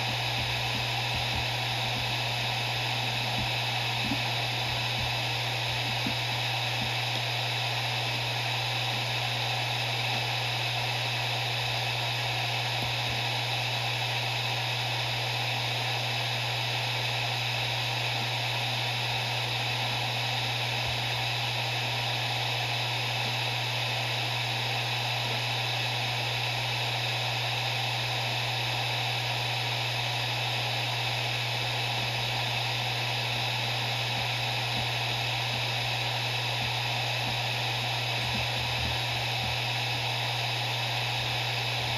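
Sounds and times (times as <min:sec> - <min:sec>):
hard drive spinning: 0:00.0 - 0:41.9.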